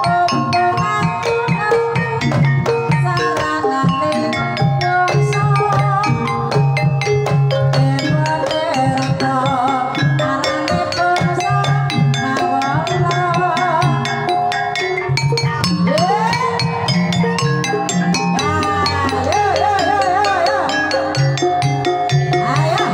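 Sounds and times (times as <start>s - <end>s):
woman singing: 0.0s - 22.9s.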